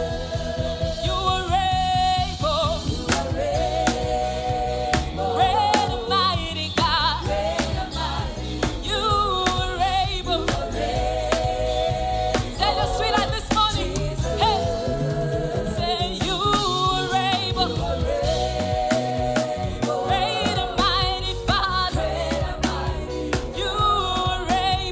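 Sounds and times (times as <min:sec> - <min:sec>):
band playing gospel music: 0:00.0 - 0:24.9.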